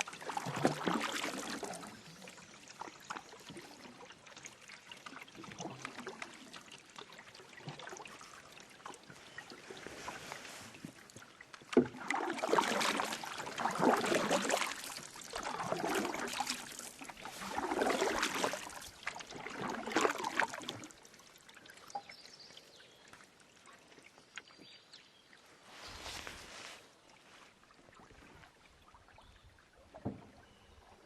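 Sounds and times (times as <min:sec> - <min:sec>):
canoe paddle strokes in water: 0:00.0 - 0:22.3, 0:23.1 - 0:31.0
faint water sounds: 0:00.0 - 0:31.0.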